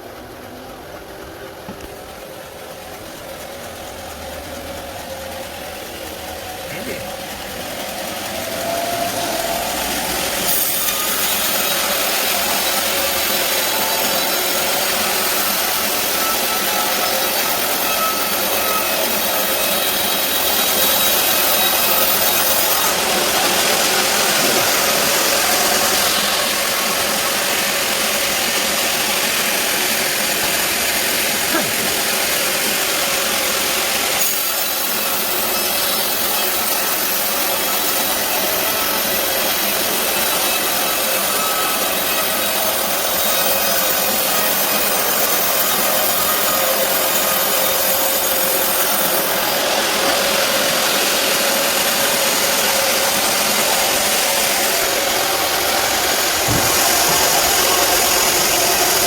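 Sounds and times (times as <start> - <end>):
band sawmill cutting log: 1.7 - 59.0.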